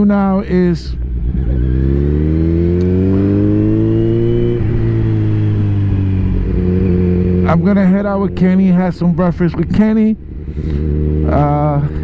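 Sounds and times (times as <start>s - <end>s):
motorcycle engine accelerating: 0.2s - 12.0s.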